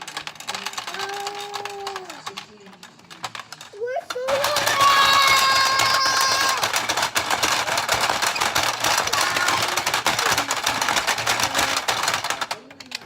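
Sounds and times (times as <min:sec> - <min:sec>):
rapid clicking and clattering: 0:00.0 - 0:13.0.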